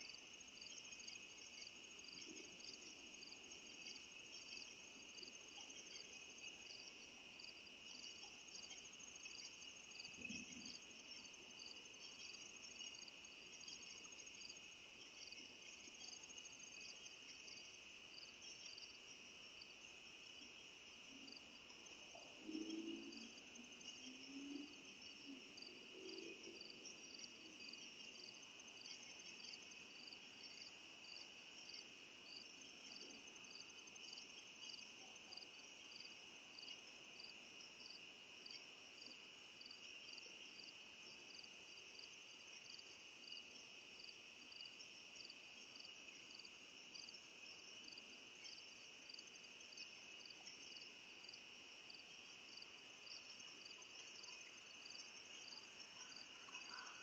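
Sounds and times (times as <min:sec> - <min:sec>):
insect chirp: 0:00.0 - 0:57.0
insect trill: 0:00.0 - 0:57.0.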